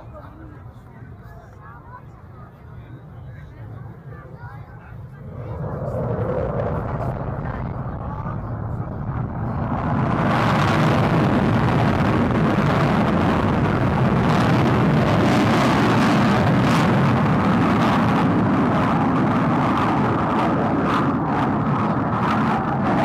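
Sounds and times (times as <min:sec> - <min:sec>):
military jet flying over: 0:01.8 - 0:23.0.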